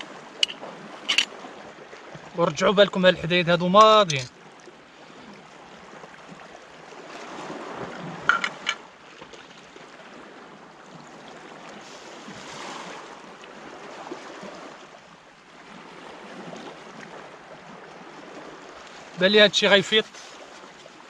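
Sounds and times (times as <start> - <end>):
sea waves washing on shore: 0.0 - 21.0.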